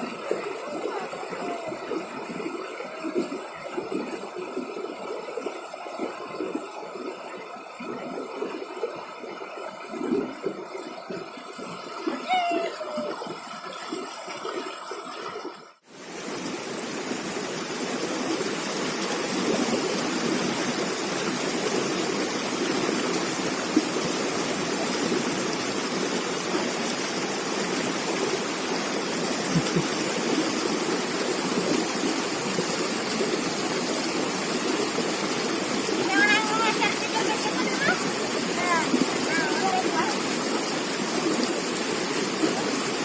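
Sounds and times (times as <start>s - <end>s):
flowing river water: 0.0s - 43.0s.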